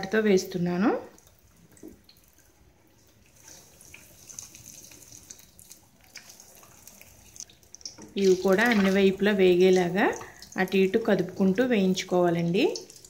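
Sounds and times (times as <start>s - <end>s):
hot oil sizzling and crackling: 1.4s - 13.0s.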